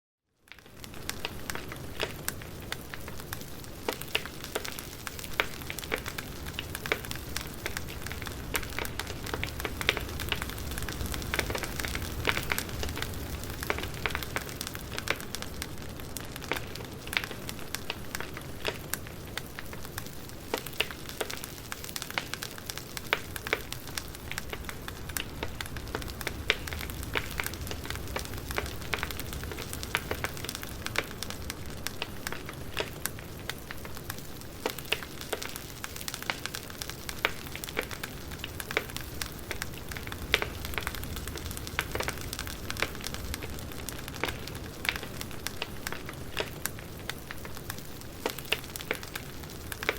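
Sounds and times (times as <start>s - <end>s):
wood crackling and popping: 0.4s - 49.9s
low rush of flame: 4.0s - 20.6s, 21.2s - 35.4s, 36.0s - 49.9s.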